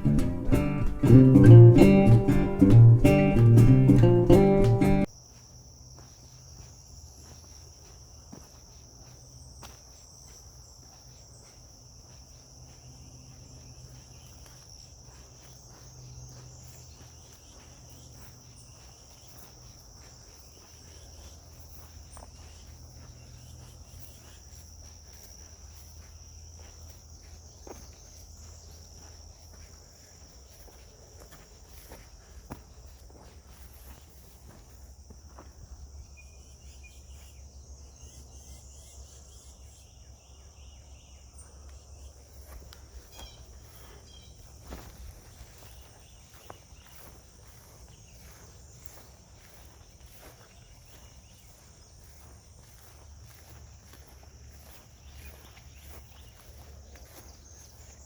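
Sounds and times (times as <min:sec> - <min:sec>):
high-pitched insect chorus: 0:05.0 - 0:58.0.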